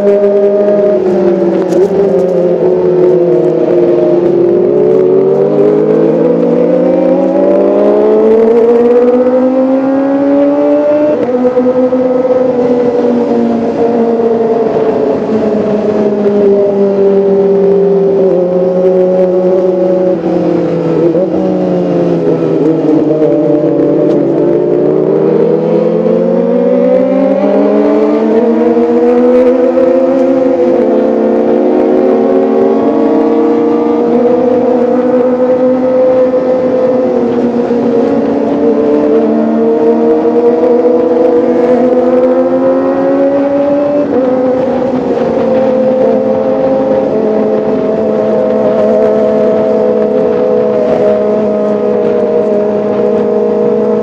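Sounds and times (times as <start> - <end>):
motorcycle engine revving high: 0.0 - 54.0.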